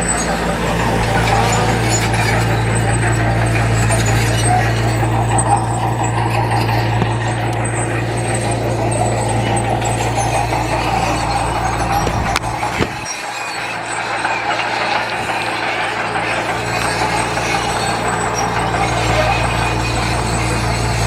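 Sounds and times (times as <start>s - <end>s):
heavy diesel machine engine: 0.0s - 21.0s.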